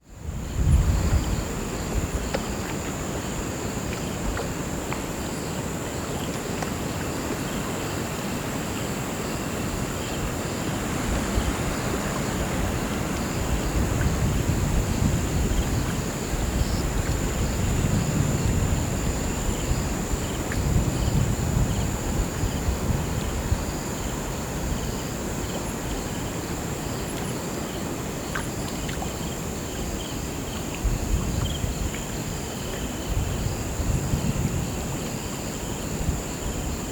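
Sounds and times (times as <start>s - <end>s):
crickets chirping: 0.0s - 36.9s
river flowing: 1.0s - 33.6s.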